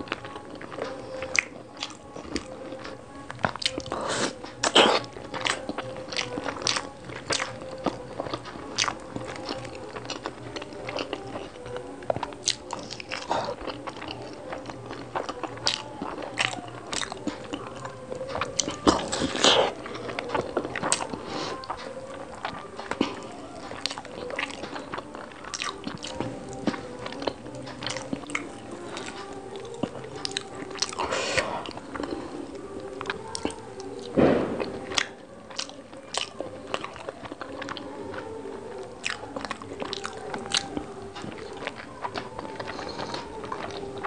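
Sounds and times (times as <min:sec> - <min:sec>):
biting and chewing soft food: 0:00.0 - 0:44.0.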